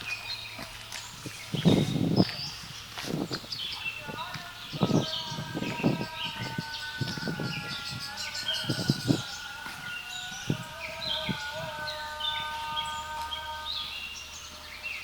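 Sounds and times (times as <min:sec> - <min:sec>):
soft footfalls on trail: 0:00.0 - 0:14.8
songbirds chirping: 0:00.0 - 0:15.0.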